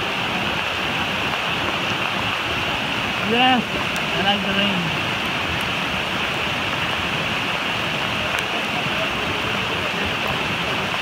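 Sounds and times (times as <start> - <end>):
rain falling: 0.0 - 11.0
river rapids rushing: 0.0 - 11.0.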